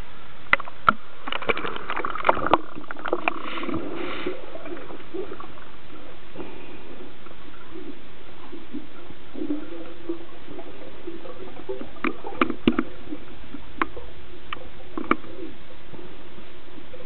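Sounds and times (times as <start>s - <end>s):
muffled underwater hiss: 0.0s - 17.0s
water splashing: 0.5s - 16.1s
bubbly gurgles: 1.2s - 16.2s.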